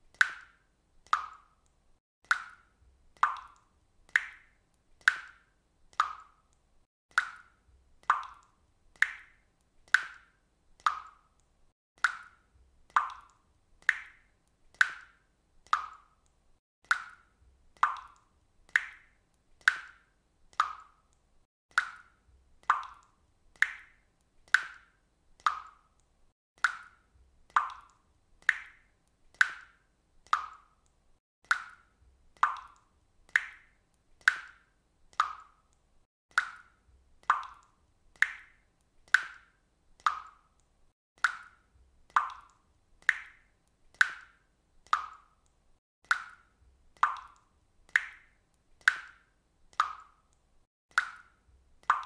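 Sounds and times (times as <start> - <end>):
water drops plopping into water: 0.1 - 52.0.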